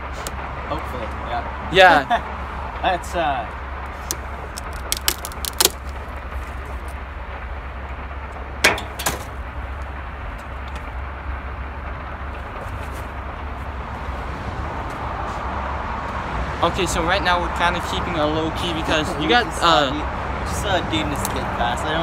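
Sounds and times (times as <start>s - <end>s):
distant construction machinery: 0.0s - 22.0s
road traffic: 0.0s - 22.0s.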